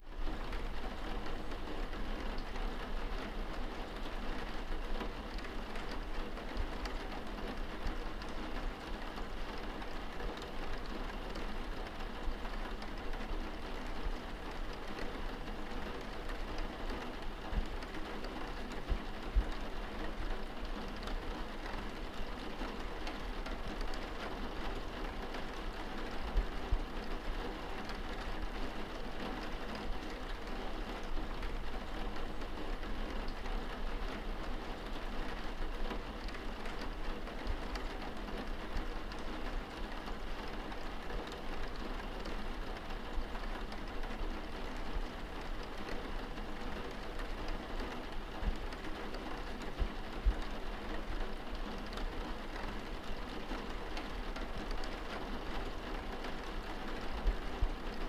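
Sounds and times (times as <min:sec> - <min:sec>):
rain pattering on window glass: 0:00.0 - 0:58.0.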